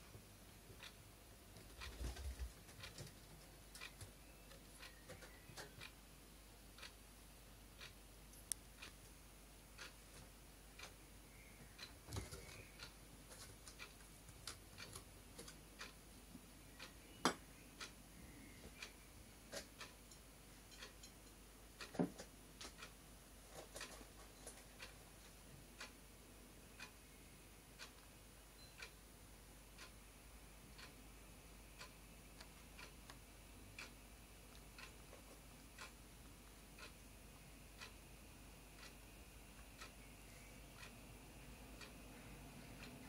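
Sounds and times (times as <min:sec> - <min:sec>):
clock ticking: 0:00.0 - 0:43.0.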